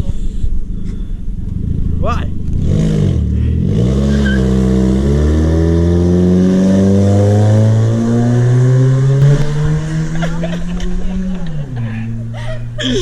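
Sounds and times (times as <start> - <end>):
car engine accelerating hard: 0.8 - 12.9.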